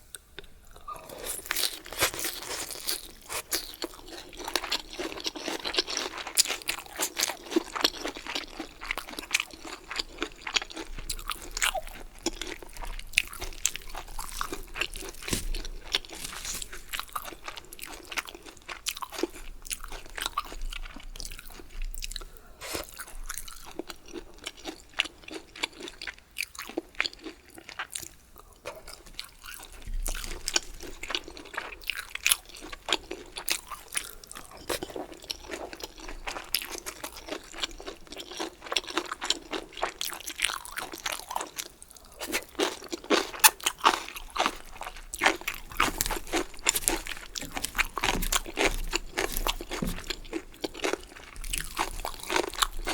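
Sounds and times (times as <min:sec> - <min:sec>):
close chewing with crisp crunches: 0:00.0 - 0:52.9.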